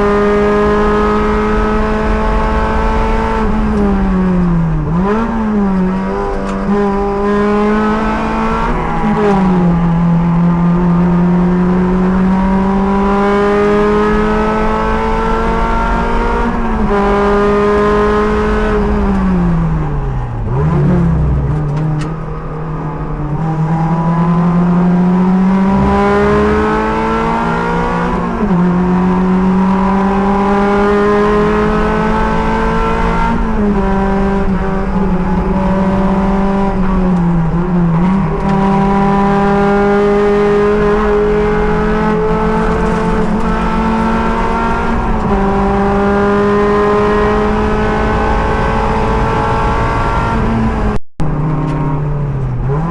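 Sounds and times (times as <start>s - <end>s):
race car engine at full throttle: 0.0s - 52.9s.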